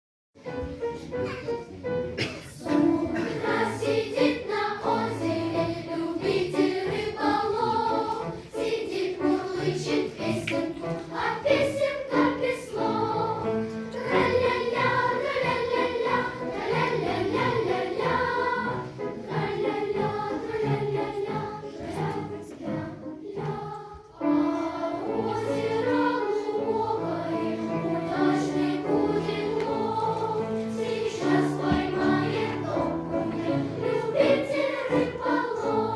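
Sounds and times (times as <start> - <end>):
choir singing: 2.2 - 35.9.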